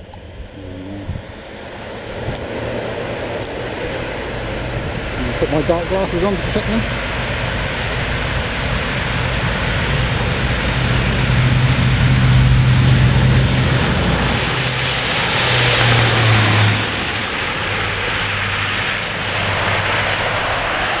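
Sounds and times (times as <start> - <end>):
loud propeller drone: 0.0 - 21.0
rushing noise: 0.0 - 21.0.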